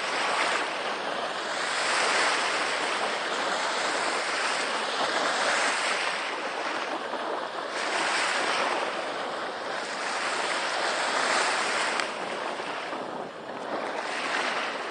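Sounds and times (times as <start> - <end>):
small waves washing up beach: 0.0 - 14.9.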